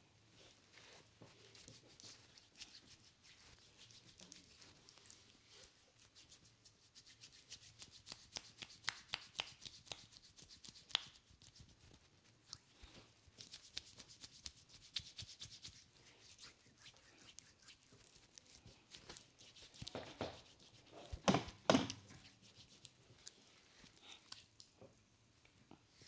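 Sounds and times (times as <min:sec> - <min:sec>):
hands squishing lathered skin: 0:01.4 - 0:24.6.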